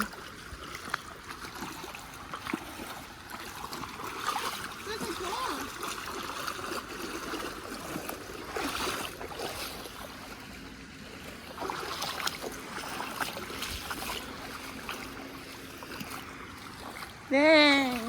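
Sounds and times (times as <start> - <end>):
short splashes and clicks: 0.0 - 10.4, 11.2 - 18.0.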